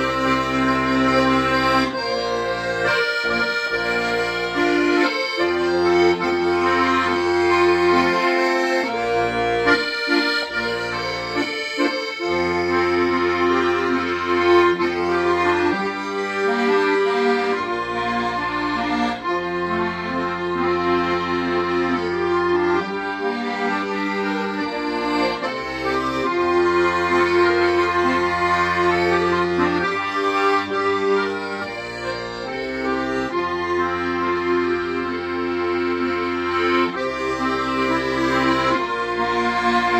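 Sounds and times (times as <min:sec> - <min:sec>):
accordion slow melody: 0:00.0 - 0:39.9.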